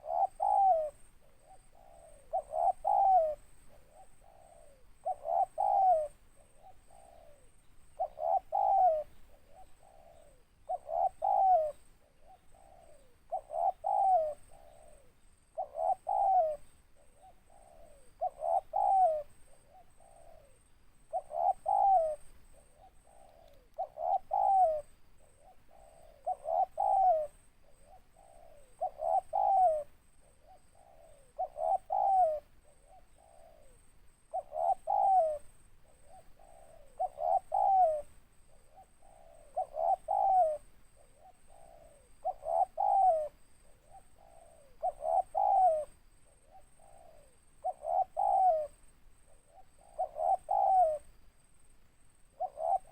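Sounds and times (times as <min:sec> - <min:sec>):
dove cooing: 0:00.0 - 0:51.2, 0:52.2 - 0:52.9.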